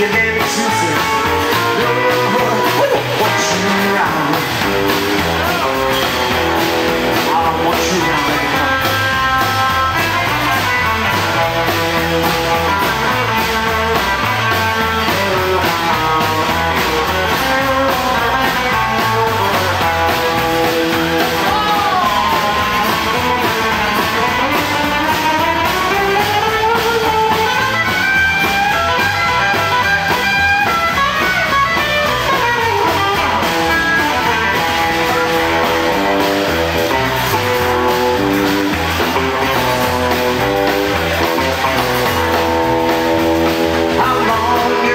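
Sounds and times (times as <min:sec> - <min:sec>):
drums: 0:00.0 - 0:44.9
electric guitar lead: 0:00.0 - 0:44.9
upright bass: 0:00.0 - 0:44.9.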